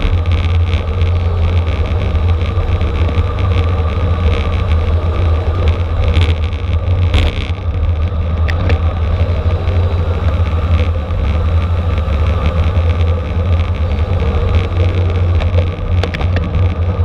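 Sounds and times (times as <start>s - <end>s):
bike road rumble: 0.0s - 17.0s
wind rushing over microphone: 0.0s - 17.0s.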